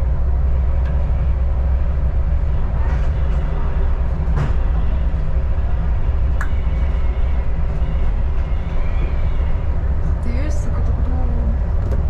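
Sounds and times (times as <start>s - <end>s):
railcar low rumble: 0.0s - 12.0s.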